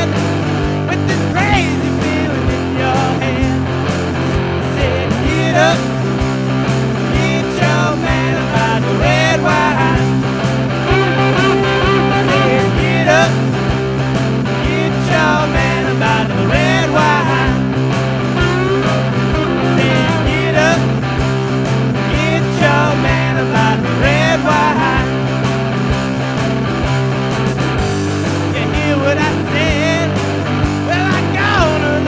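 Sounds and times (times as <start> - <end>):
bending electric guitar notes: 0.0 - 32.0
blues-rock band playing: 0.0 - 32.0.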